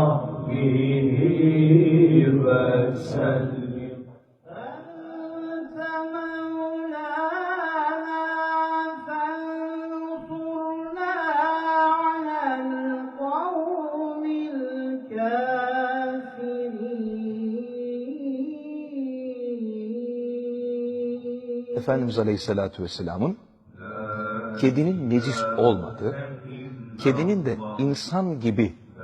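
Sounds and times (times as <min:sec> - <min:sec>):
solo voice chanting: 0:00.0 - 0:22.3, 0:23.7 - 0:29.0.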